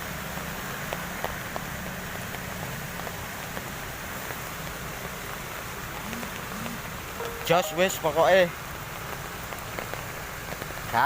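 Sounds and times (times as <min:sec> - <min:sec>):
heavy rain hiss: 0:00.0 - 0:11.0.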